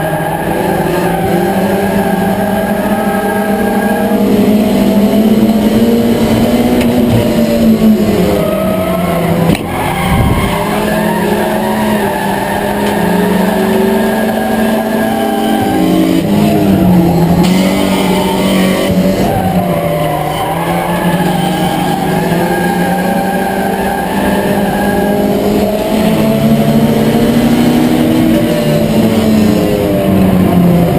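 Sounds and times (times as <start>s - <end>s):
race car engine running hard: 0.0s - 30.9s.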